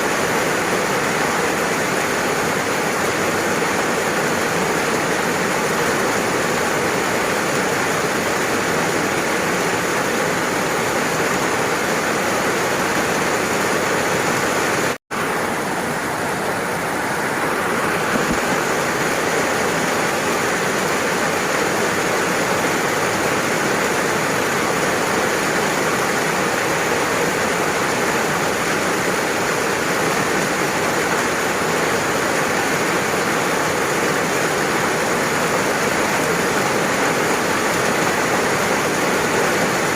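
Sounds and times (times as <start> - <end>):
dense rain hiss: 0.0 - 39.9.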